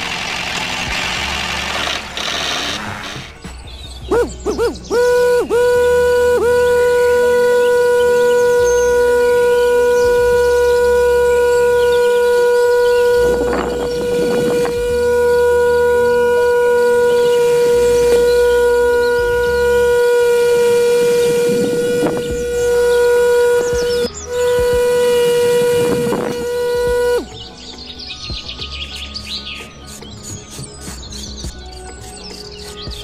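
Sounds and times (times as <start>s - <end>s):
electric motor whine: 0.0s - 3.5s, 4.1s - 33.0s.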